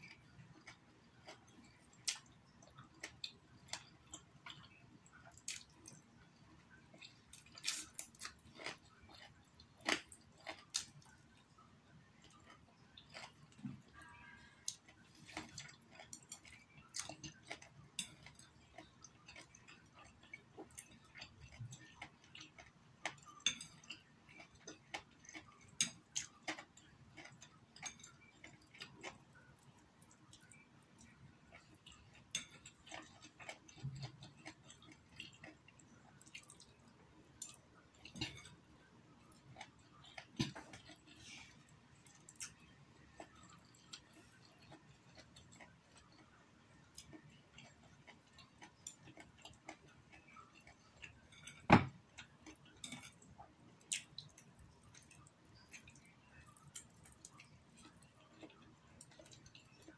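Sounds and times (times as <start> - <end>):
person chewing noodles: 0.0 - 59.9.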